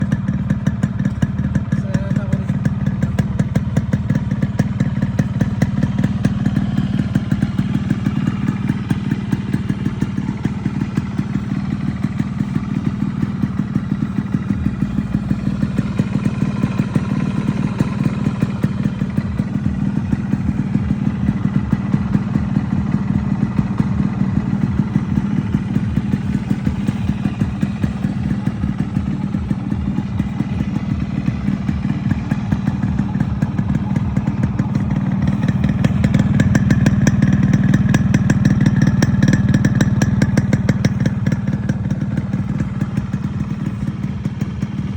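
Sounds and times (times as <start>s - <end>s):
two-stroke engine running: 0.0s - 44.9s.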